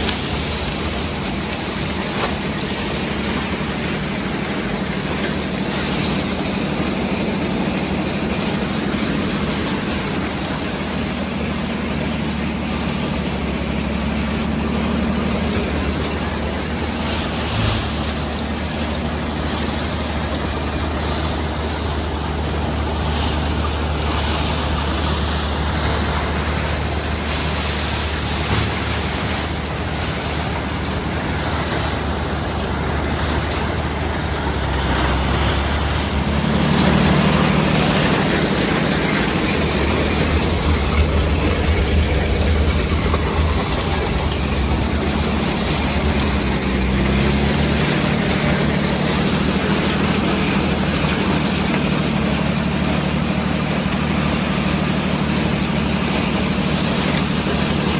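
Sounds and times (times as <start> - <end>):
rushing noise: 0.0 - 57.9
tractor engine and machinery drone: 0.0 - 57.9.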